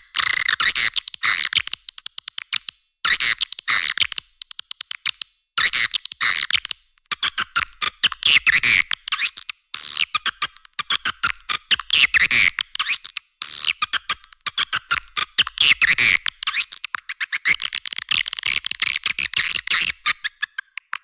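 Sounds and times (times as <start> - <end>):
swiftlet call clicks and chirps: 0.2 - 21.0.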